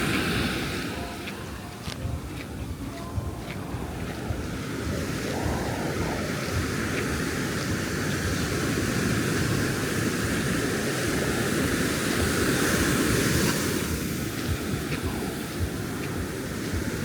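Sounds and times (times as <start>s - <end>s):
ocean surf breaking: 0.0s - 1.7s, 3.5s - 17.0s
wind on microphone: 0.0s - 17.0s.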